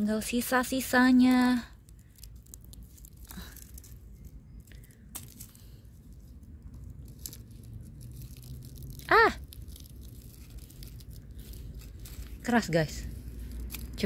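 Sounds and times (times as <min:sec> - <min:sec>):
husks and dead leaves crackling: 0:00.0 - 0:14.0.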